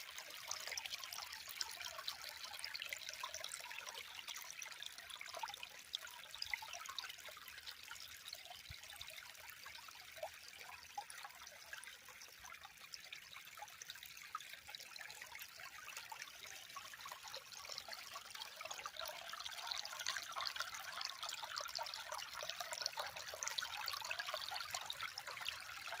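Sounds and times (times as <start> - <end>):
water trickling with small splashes: 0.0 - 26.0.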